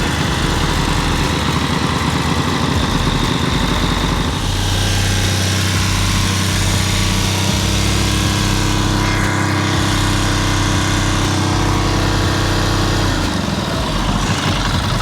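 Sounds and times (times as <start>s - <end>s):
mechanical noise in engine: 0.0s - 15.0s
motorcycle engine idling: 0.0s - 15.0s.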